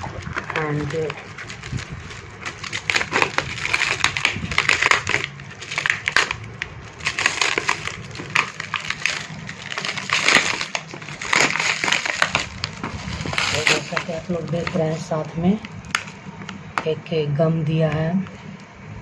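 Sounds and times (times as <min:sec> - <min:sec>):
plastic packaging crinkling: 0:00.0 - 0:16.9.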